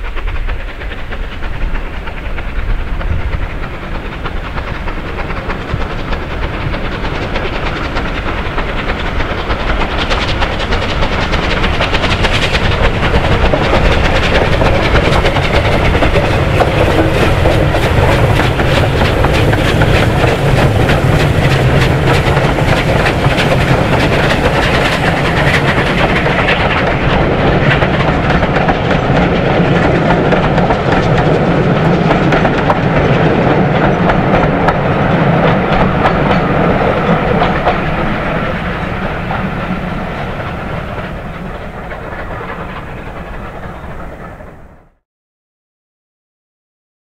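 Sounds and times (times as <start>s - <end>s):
steam train passing: 0.0s - 45.0s
wheels clicking over track: 0.2s - 44.4s.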